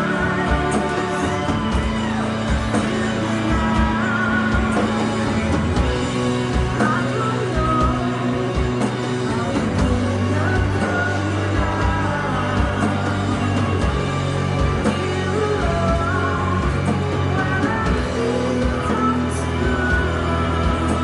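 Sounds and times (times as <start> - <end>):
held bass notes: 0.0 - 21.0.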